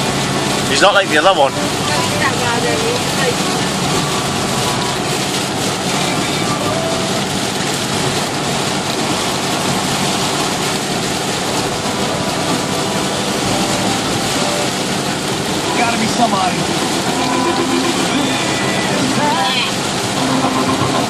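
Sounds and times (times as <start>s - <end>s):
car engine: 0.0s - 21.0s
rain on car: 0.0s - 21.0s
tyres hissing on wet road: 0.0s - 21.0s.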